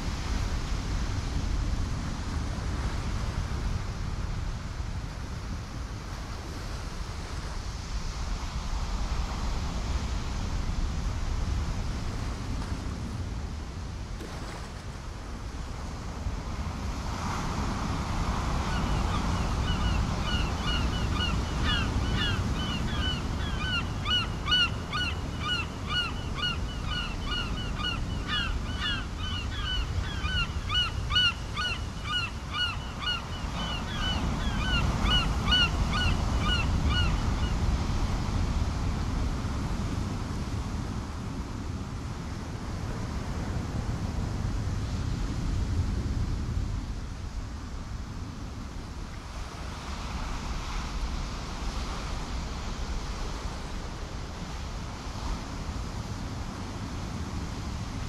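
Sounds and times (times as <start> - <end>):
wind and surf rumble: 0.0 - 58.0.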